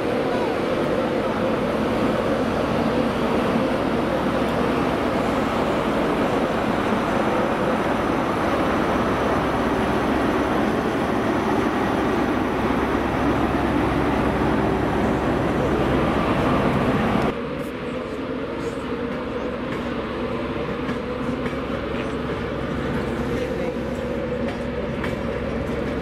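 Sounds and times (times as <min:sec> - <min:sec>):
diesel locomotive engine running: 0:00.0 - 0:26.0
station background noise: 0:00.0 - 0:26.0.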